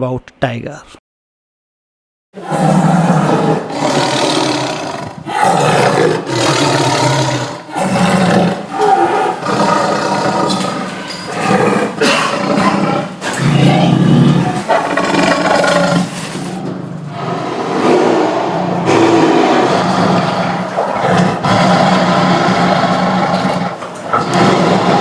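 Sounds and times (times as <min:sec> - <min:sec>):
tiger roaring: 0:02.4 - 0:25.0.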